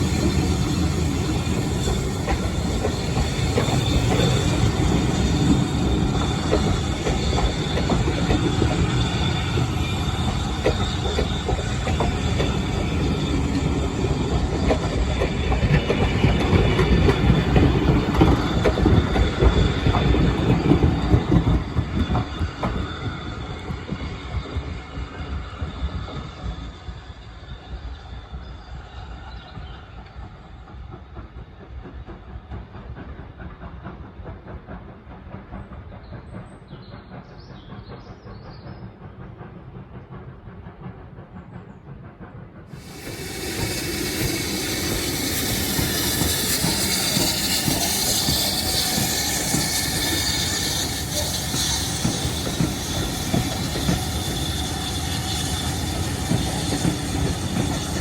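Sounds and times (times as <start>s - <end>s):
train rushing close: 0.0s - 58.0s
train wheels clicking over rail joints: 0.0s - 58.0s.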